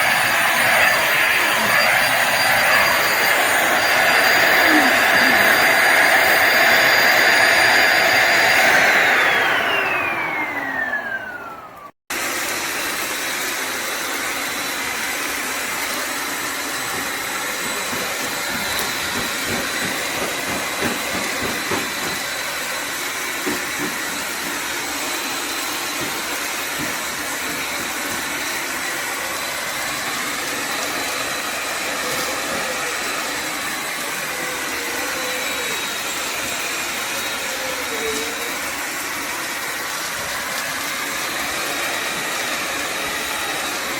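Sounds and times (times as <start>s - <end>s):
steam mop motor whining: 0.0s - 43.9s.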